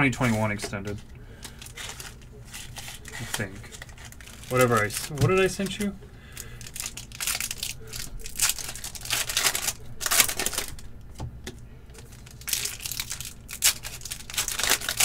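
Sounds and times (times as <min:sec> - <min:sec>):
foil wrappers crinkling and tearing: 0:00.1 - 0:10.9, 0:12.0 - 0:15.0.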